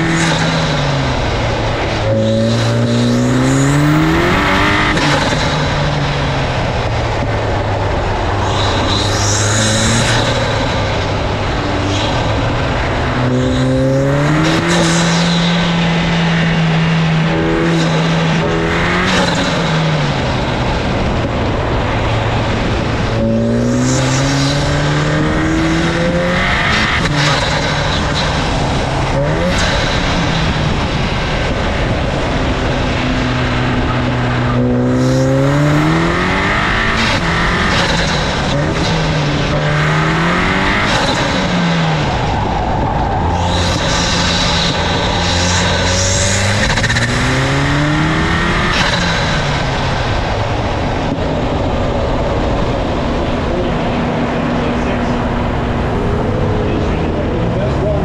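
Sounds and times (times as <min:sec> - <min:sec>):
loud induction noise: 0:00.0 - 0:58.0
turbocharged car engine revving: 0:00.0 - 0:58.0.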